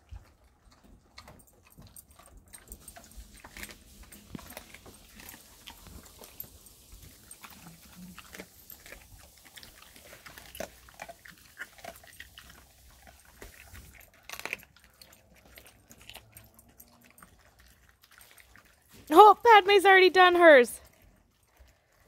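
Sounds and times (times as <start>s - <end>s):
dogs crunching bones: 0.0s - 22.0s.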